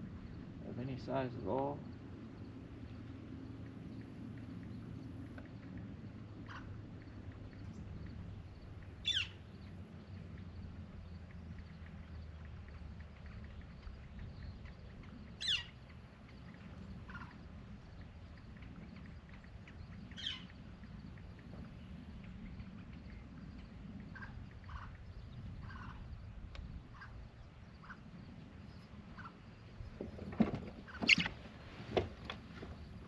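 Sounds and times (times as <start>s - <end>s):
low rumble of wind: 0.0s - 33.0s
downward sweeping bird calls: 1.2s - 10.6s, 11.2s - 30.2s, 30.8s - 31.8s.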